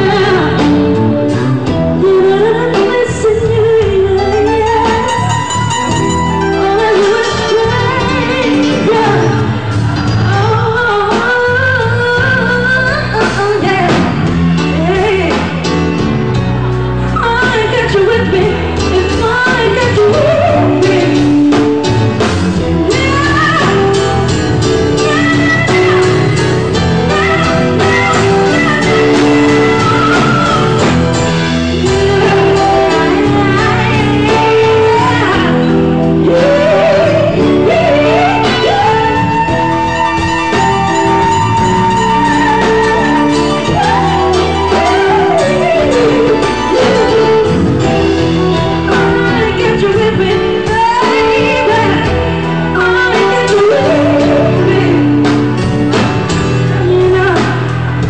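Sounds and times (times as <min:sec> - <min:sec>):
woman singing into microphone: 0:00.0 - 0:15.7, 0:17.2 - 0:55.7, 0:56.6 - 0:58.0
drums: 0:00.0 - 0:58.0
electric guitar: 0:00.0 - 0:58.0.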